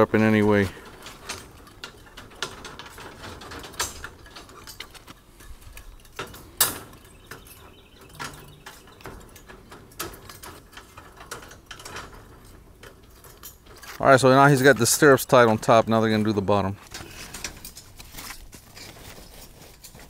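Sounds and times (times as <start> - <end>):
wire clicking and scraping: 0.0 - 20.0.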